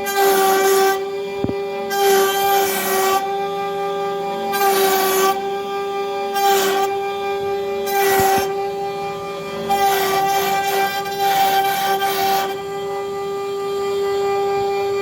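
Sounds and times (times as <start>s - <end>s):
bit cutting wood rasping: 0.0s - 15.0s
router spindle whine: 0.0s - 15.0s.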